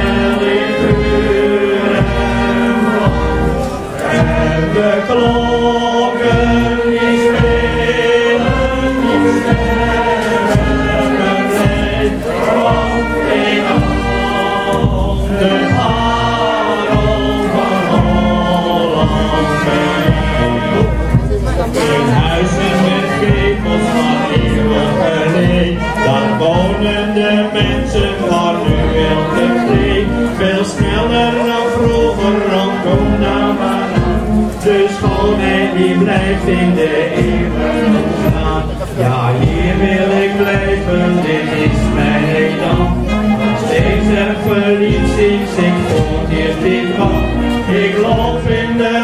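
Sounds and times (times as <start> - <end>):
men's choir singing: 0.0 - 49.0.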